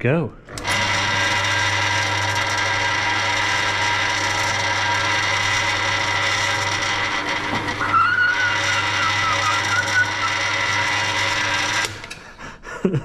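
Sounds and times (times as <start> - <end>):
drill press motor hum and whine: 0.5 - 12.2.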